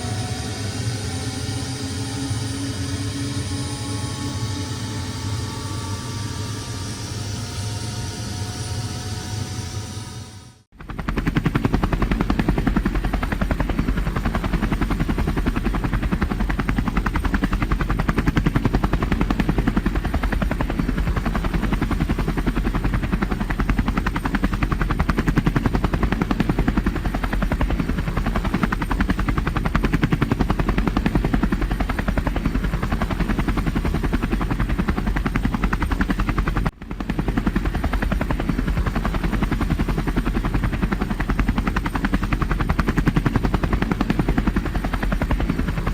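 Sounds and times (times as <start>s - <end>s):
helicopter rotor and turbine: 0.0s - 45.9s.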